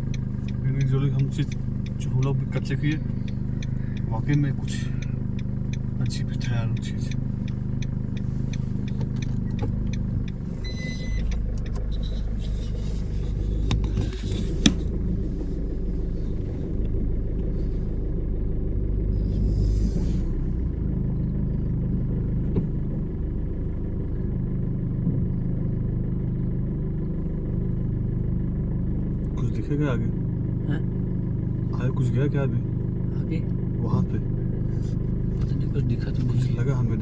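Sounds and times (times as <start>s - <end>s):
car engine low rumble: 0.0s - 37.0s.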